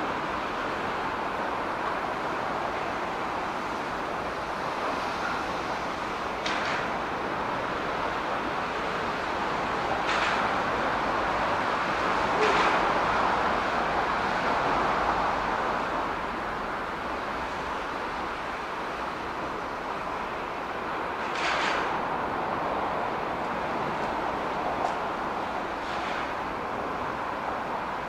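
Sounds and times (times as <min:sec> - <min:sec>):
train rolling over rails: 0:00.0 - 0:28.0.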